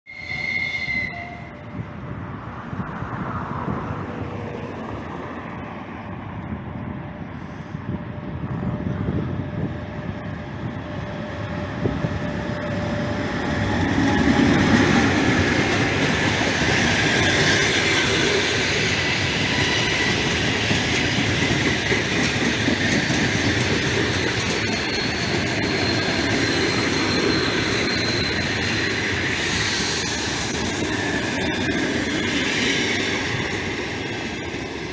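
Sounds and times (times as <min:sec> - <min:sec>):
passenger train rolling past: 0:00.1 - 0:34.9.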